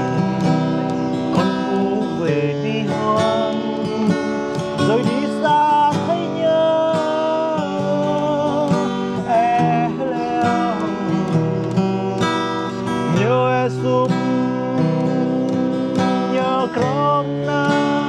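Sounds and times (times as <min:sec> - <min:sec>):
acoustic guitar strumming: 0:00.0 - 0:18.0
man singing: 0:00.0 - 0:18.0.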